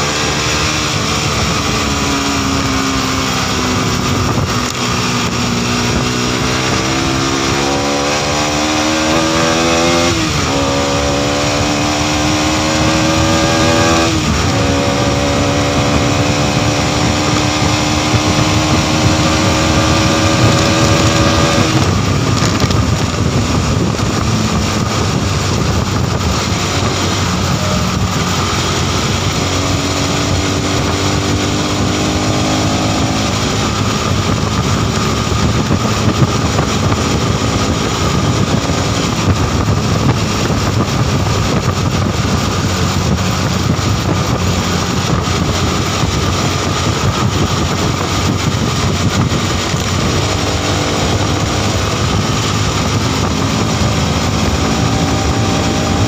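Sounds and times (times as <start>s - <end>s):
motorcycle engine accelerating: 0.0s - 56.0s
wind noise: 0.0s - 56.0s.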